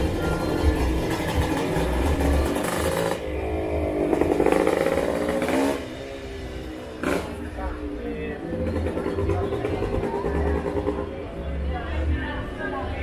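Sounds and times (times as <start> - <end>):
small motorcycles passing: 0.0 - 13.0.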